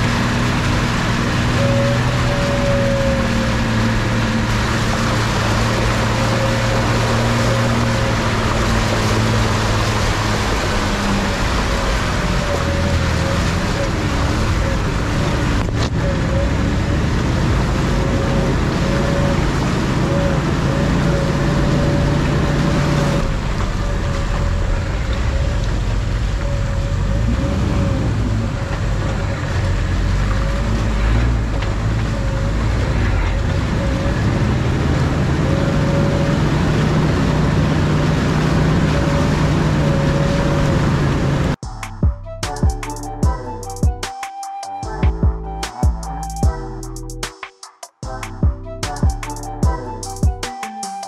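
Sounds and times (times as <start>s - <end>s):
off-road vehicle engine rumble: 0.0s - 44.1s, 44.8s - 47.3s.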